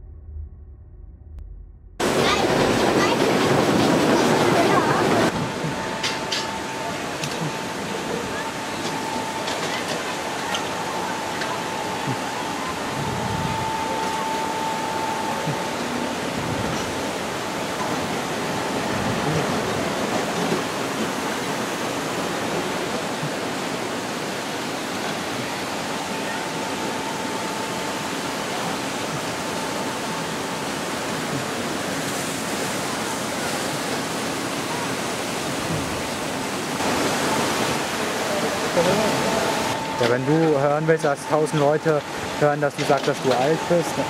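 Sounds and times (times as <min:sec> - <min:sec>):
rushing water in a flume: 0:02.0 - 0:44.0.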